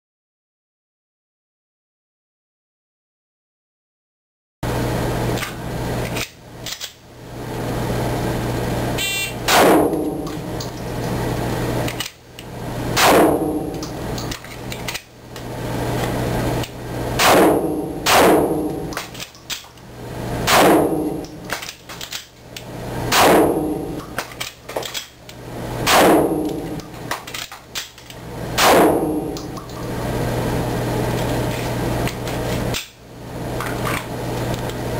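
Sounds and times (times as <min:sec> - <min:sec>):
steady low hum: 0:04.6 - 0:34.9.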